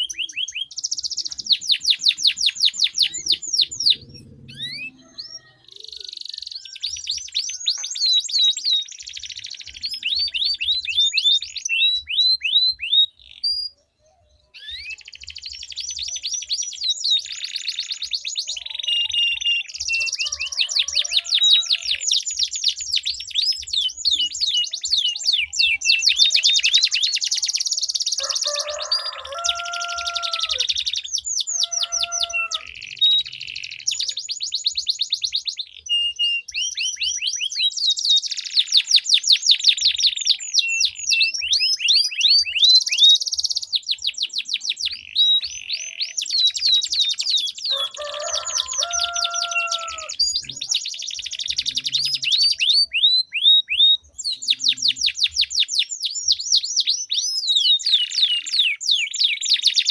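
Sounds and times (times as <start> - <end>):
canaries singing trills: 0.0 - 59.9.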